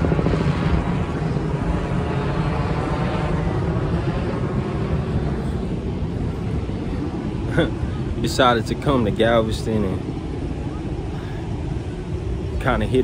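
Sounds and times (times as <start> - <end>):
helicopter engine drone and rotor chop: 0.0 - 13.0.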